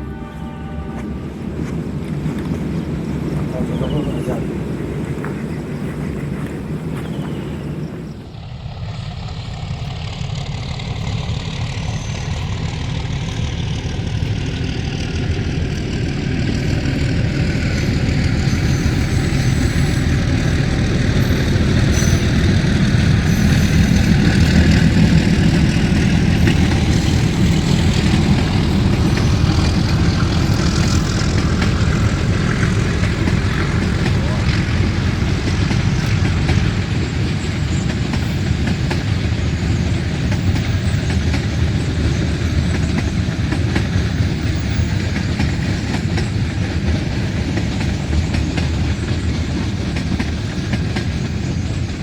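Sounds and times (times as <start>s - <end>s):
diesel locomotive engine running: 0.0s - 52.0s.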